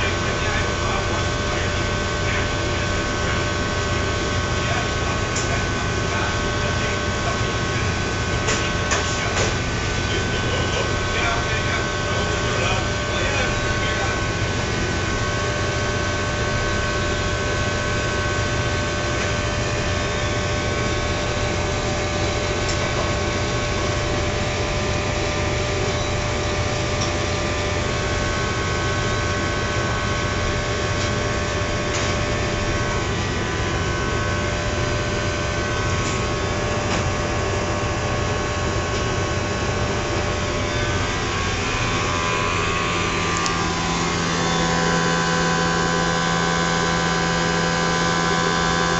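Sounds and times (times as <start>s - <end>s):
blower motor humming: 0.0s - 48.9s
steady motor whine: 0.0s - 48.9s.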